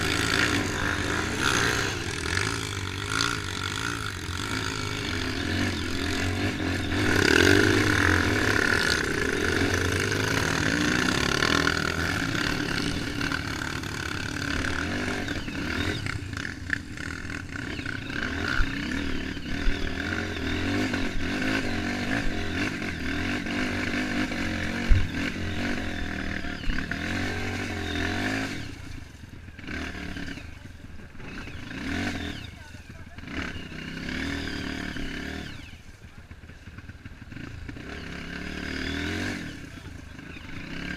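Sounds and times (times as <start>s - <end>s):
off-road motorcycle engine revving: 0.0s - 40.9s.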